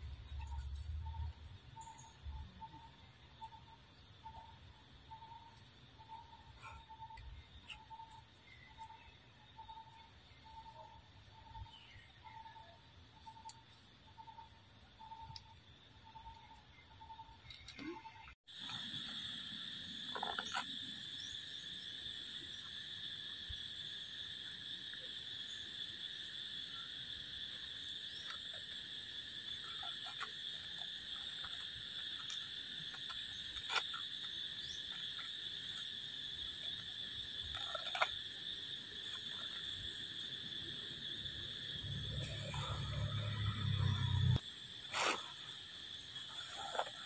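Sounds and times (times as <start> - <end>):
insect chorus droning: 0.0 - 47.0.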